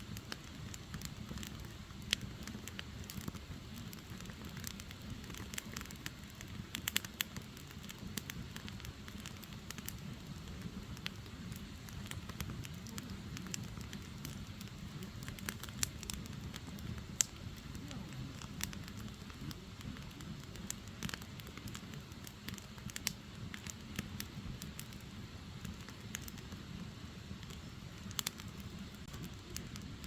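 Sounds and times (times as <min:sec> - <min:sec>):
logs crackling and popping: 0:00.0 - 0:30.0.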